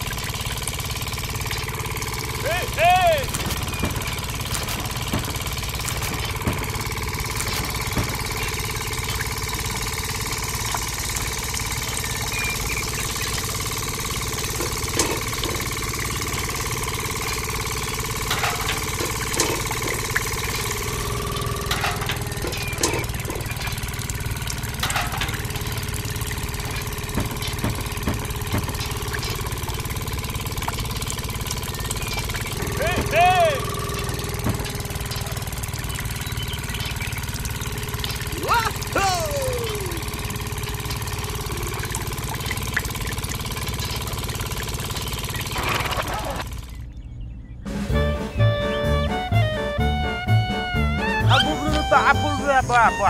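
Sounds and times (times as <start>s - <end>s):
small motor humming: 0.0s - 47.5s
small clicks: 1.3s - 46.7s.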